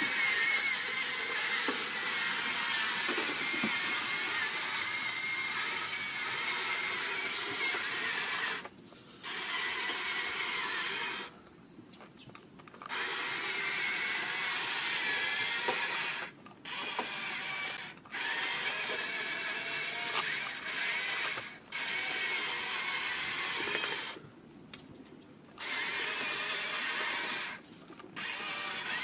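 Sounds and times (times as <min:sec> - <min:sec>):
toy tank motors whirring: 0:00.0 - 0:11.4, 0:12.6 - 0:24.2, 0:25.6 - 0:29.0.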